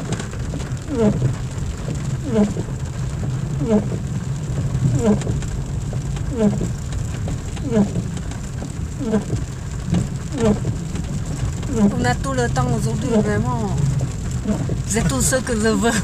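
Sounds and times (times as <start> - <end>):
low rumble of moving car: 0.0 - 16.0
windscreen wipers squeaking: 0.0 - 16.0.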